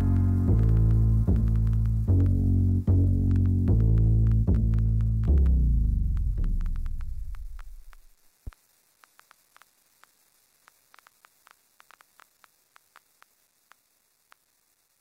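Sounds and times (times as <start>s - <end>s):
faint static hiss: 0.0s - 15.0s
soft crackling clicks: 0.0s - 15.0s.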